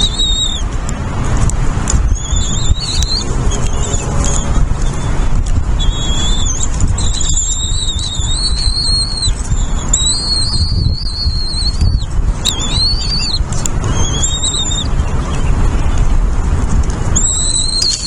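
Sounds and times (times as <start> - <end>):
nestling birds begging calls: 0.0 - 0.8, 1.8 - 16.3, 17.1 - 18.0
steady low rumble: 0.0 - 18.0.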